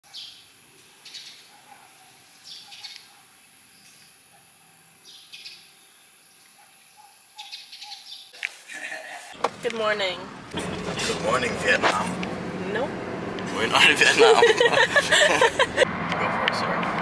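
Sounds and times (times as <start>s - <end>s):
birds chirping: 0.0s - 15.8s.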